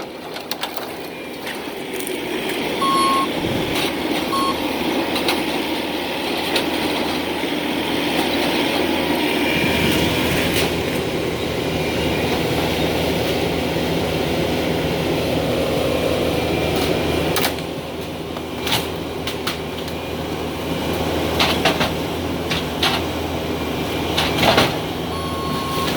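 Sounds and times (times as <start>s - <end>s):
heavy demolition machinery running: 0.0s - 25.9s.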